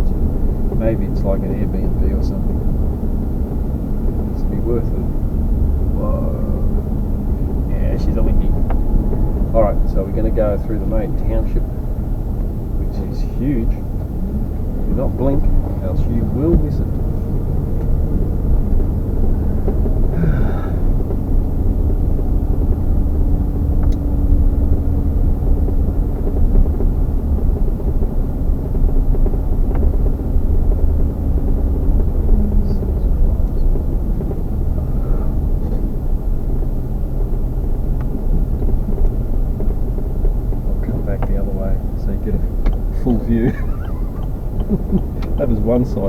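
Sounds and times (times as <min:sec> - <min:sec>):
car road and engine rumble: 0:00.0 - 0:46.0
faint engine hum: 0:00.0 - 0:46.0.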